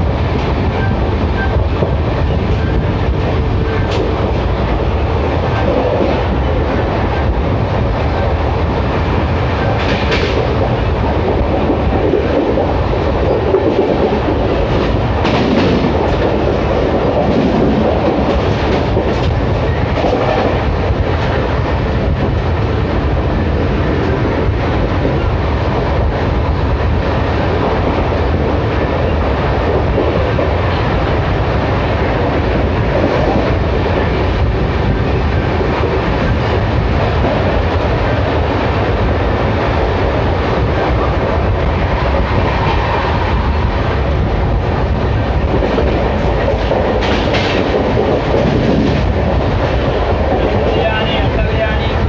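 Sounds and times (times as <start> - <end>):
train rumbling along track: 0.0 - 52.0.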